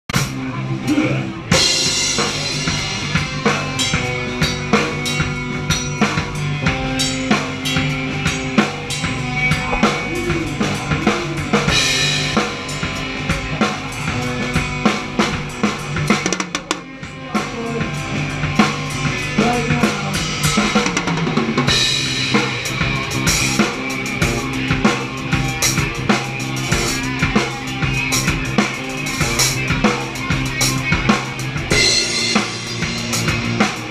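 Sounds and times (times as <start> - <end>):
drum kit beat: 0.0 - 33.9
rock band playing live: 0.1 - 33.9.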